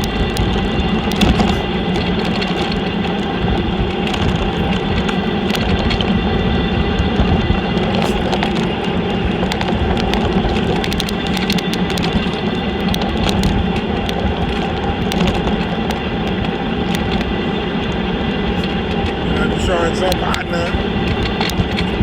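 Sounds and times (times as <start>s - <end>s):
car cabin road noise: 0.0s - 22.0s.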